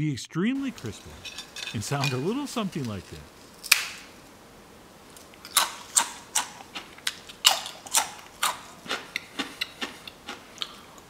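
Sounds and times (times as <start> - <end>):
potato chips crunching: 0.6 - 4.1, 5.2 - 11.0.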